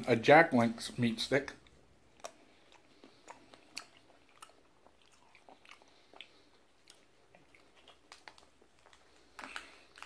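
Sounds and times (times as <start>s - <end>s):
soft chewing mouth clicks: 1.5s - 10.0s.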